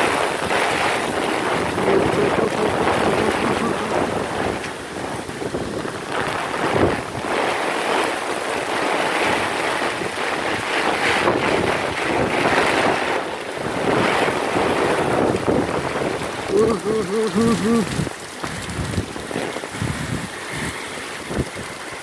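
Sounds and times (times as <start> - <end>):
heavy rain: 0.0 - 22.0
surf breaking on beach: 0.0 - 22.0
wind buffeting microphone: 0.0 - 22.0.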